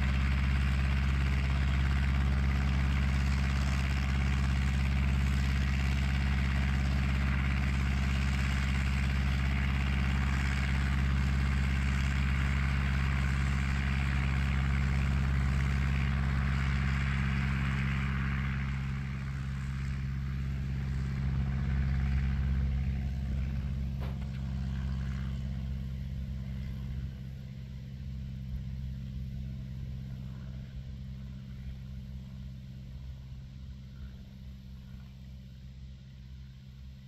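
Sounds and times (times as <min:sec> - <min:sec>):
light aircraft engine and propeller: 0:00.0 - 0:37.0.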